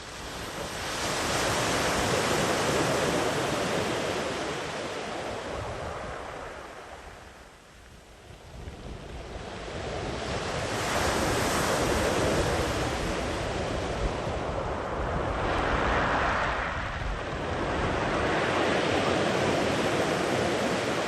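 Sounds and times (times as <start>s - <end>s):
sea waves breaking on shore: 0.1s - 6.9s, 9.3s - 21.0s.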